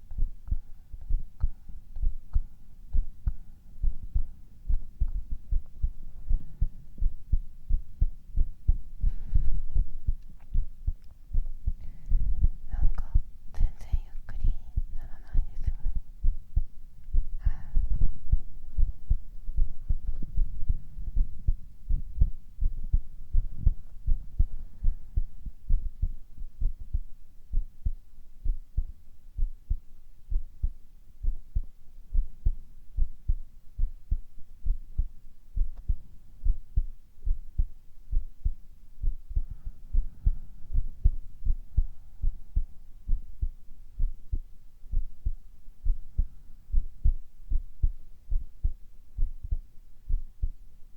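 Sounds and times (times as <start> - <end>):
heartbeat thumps: 0.0 - 50.8.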